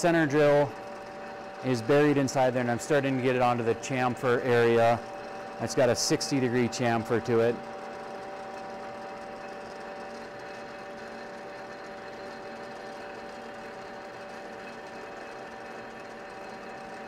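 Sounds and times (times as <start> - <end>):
metal lathe humming: 0.0 - 17.0.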